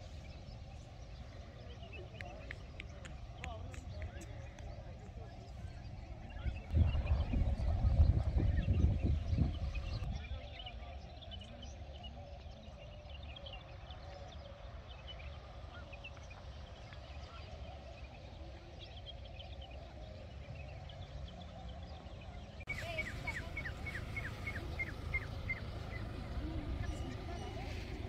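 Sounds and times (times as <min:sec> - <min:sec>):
birds chirping: 0:00.0 - 0:28.0
low wind rumble: 0:00.0 - 0:28.0
low wavering bird calls: 0:04.2 - 0:28.0.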